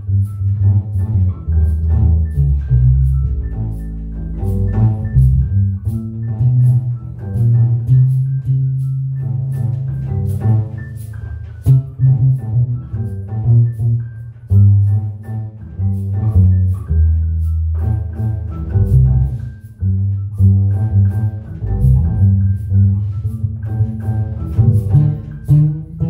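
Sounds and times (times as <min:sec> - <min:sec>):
double bass line: 0:00.0 - 0:26.0
light ticking beat: 0:00.0 - 0:26.0
long-necked string instrument: 0:00.0 - 0:26.0.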